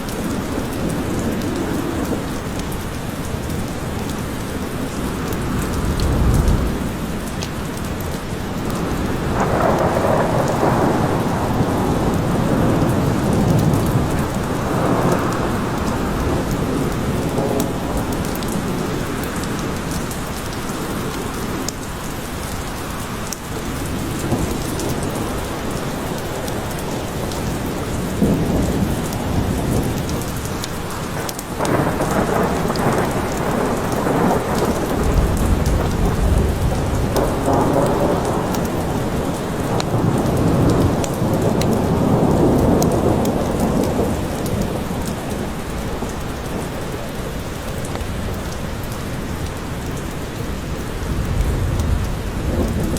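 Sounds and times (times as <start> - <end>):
thunder rumbling: 0.0 - 7.7, 8.4 - 21.7, 23.6 - 49.5, 50.4 - 52.9
heavy rain in a forest: 0.0 - 52.9.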